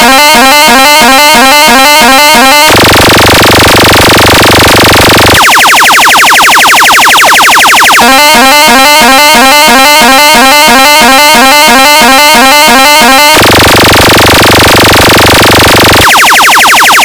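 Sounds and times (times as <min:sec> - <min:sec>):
fast synthesized tone patterns: 0:00.0 - 0:17.0.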